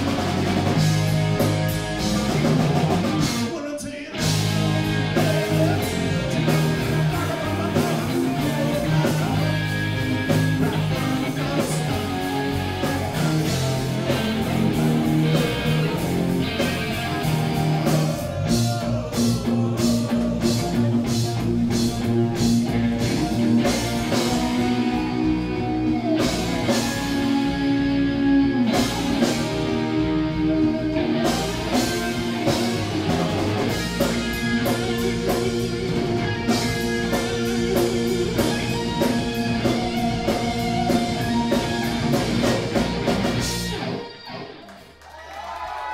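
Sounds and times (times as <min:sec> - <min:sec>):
drum kit: 0:00.0 - 0:44.4
bass guitar: 0:00.0 - 0:45.0
distorted electric guitars: 0:00.0 - 0:45.0.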